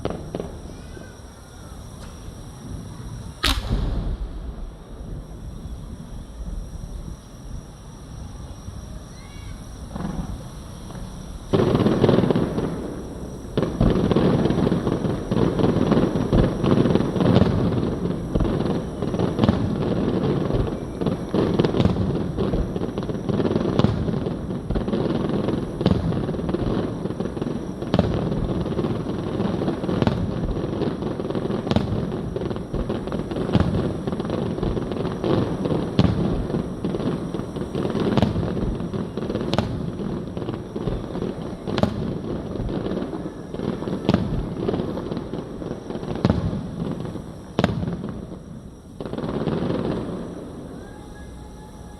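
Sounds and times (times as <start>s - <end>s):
fireworks booming and crackling: 0.0s - 51.9s.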